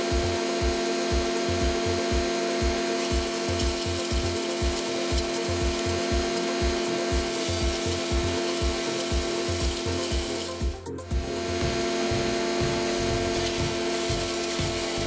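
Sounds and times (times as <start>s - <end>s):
wood chipper chipping wood: 0.0s - 15.0s.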